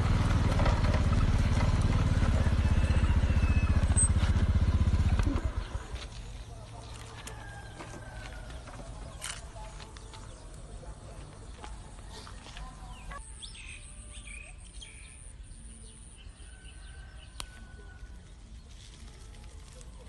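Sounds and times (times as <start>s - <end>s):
birds chirping and calling: 2.3s - 19.0s.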